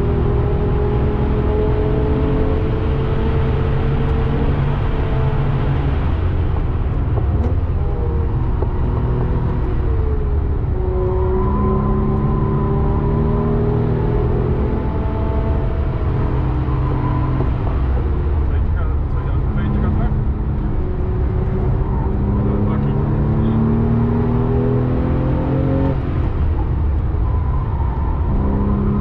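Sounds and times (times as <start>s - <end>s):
car engine revving: 0.0s - 29.0s
road rumble: 0.0s - 29.0s.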